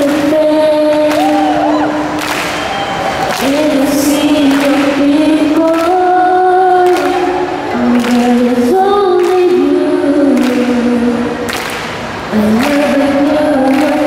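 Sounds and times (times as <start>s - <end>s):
woman singing into microphone: 0.0s - 2.2s, 3.3s - 14.0s.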